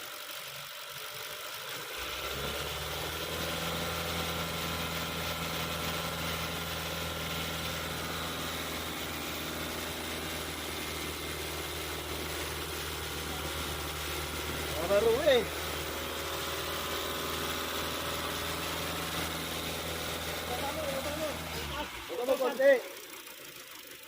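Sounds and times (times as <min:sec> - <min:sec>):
car engine idling: 0:00.0 - 0:24.0
deep steady hum: 0:02.1 - 0:22.1.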